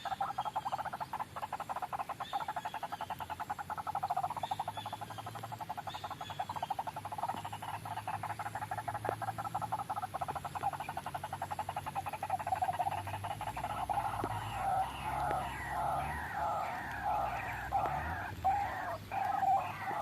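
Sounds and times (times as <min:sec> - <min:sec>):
bird croaking call: 0:00.0 - 0:20.0.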